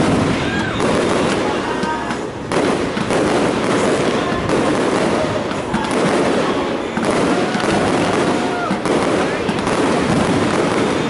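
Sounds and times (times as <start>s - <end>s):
fireworks bangs: 0.0s - 11.0s
fireworks crackling: 0.0s - 11.0s
fireworks whistles: 0.0s - 11.0s.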